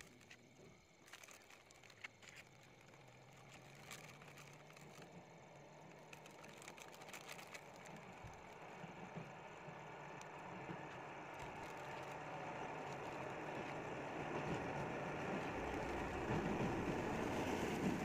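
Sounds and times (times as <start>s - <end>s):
faint clicks and rustles: 0.0s - 18.0s
faint low engine hum: 0.0s - 18.0s.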